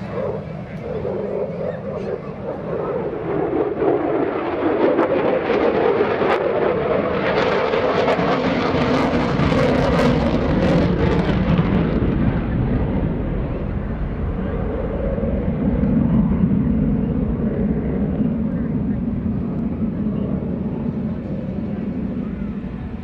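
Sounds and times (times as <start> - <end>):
jet passing: 0.0 - 18.9.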